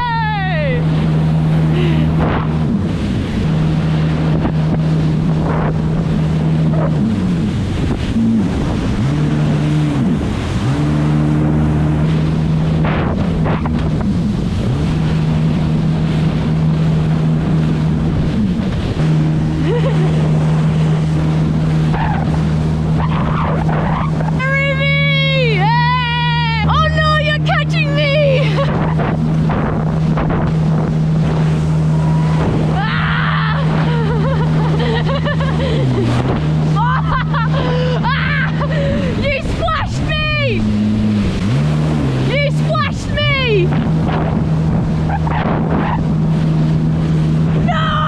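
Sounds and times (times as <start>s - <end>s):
jet ski engine: 0.0s - 48.0s.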